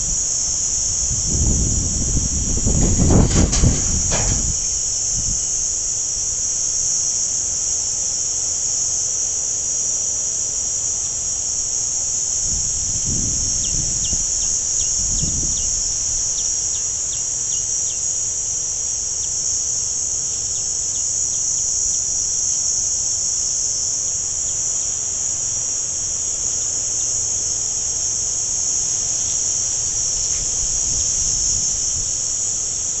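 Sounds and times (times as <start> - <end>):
insects buzzing chorus: 0.0 - 33.0.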